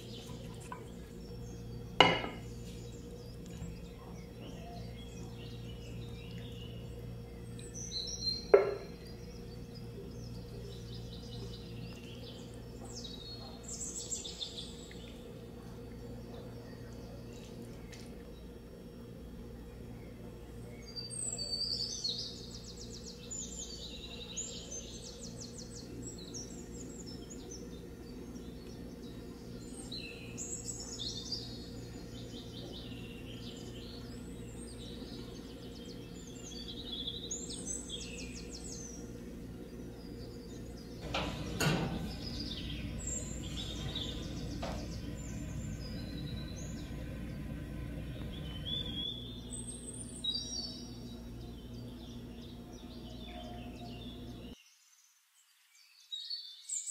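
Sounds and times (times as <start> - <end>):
steady low hum: 0.0 - 54.6
high trilling birdsong: 0.0 - 54.8.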